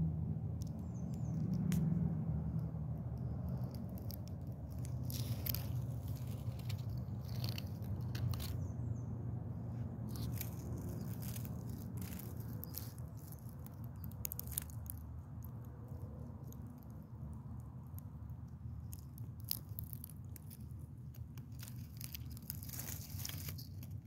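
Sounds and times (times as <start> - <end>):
steady low rumble: 0.0 - 24.0
clicks and crackles in leaf litter: 0.5 - 9.0, 9.8 - 24.0.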